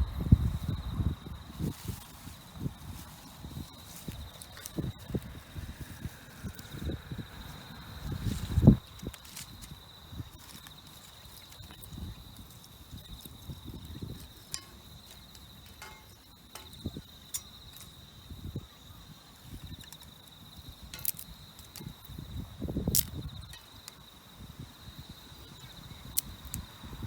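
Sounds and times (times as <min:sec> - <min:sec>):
insect trilling: 0:00.0 - 0:27.0.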